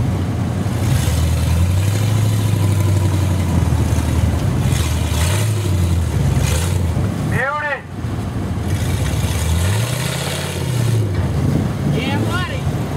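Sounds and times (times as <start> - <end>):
truck engine under load: 0.0 - 12.9.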